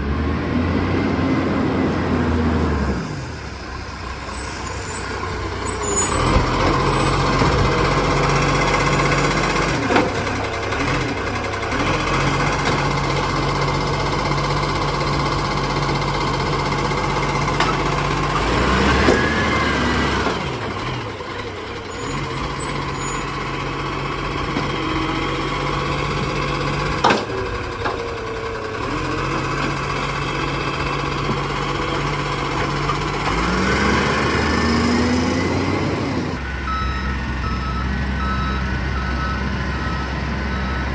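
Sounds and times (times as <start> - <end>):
garbage truck engine revving: 0.0 - 40.9.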